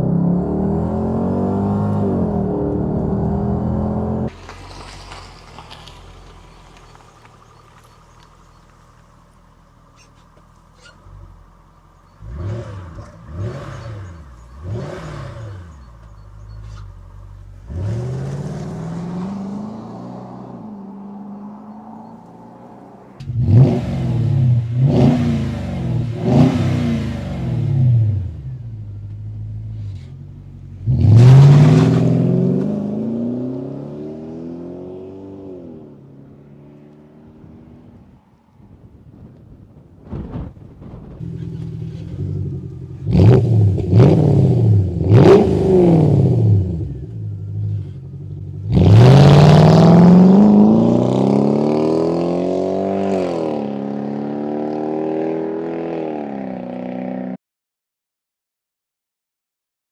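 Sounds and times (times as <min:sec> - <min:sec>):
car engine revving: 0:00.0 - 0:38.0, 0:40.3 - 0:57.0.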